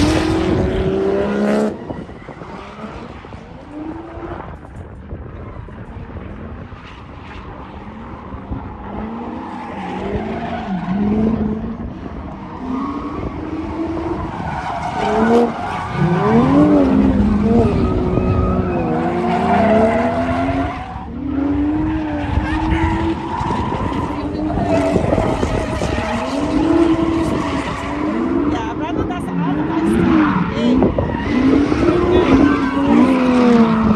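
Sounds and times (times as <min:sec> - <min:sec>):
engines revving: 0:00.0 - 0:33.9
tyres skidding and squealing: 0:00.0 - 0:33.9.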